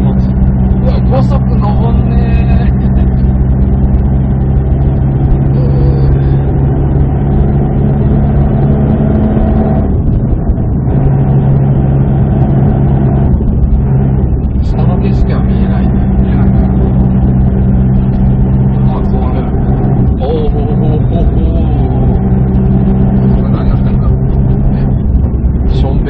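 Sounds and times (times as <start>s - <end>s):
car engine pulling at steady revs: 0.0s - 26.0s
road noise: 0.0s - 26.0s.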